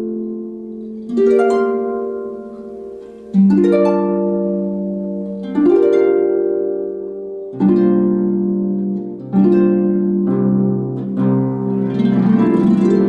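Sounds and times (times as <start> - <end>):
harp plucked notes: 0.0 - 13.0.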